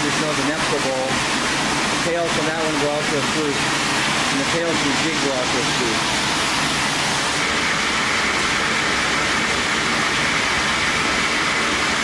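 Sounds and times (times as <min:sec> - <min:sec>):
pumps and machinery running: 0:00.0 - 0:12.0
water rushing through pipes: 0:00.0 - 0:12.0.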